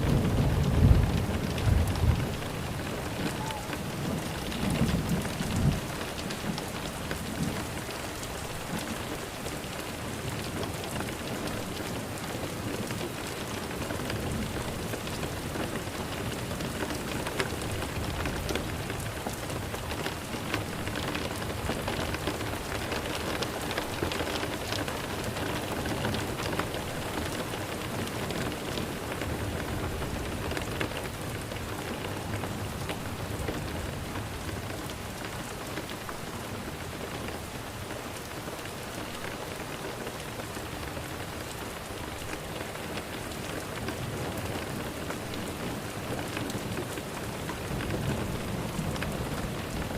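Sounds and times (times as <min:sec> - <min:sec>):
rain drops tapping: 0:00.0 - 0:49.9
steady rain falling: 0:00.0 - 0:49.9.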